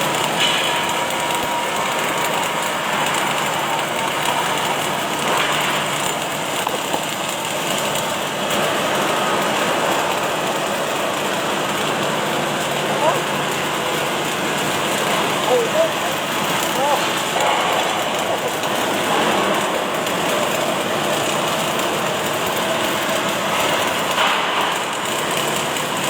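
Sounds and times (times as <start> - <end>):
arc welding machine hissing: 0.0 - 26.0.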